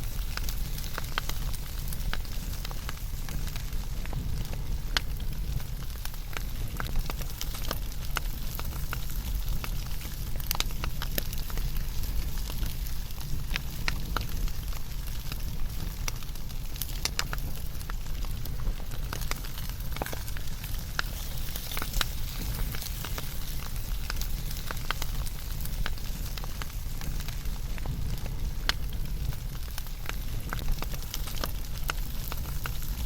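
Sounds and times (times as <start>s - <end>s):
flames rumbling and hissing: 0.0s - 33.0s
wood fire crackling and popping: 0.0s - 33.0s.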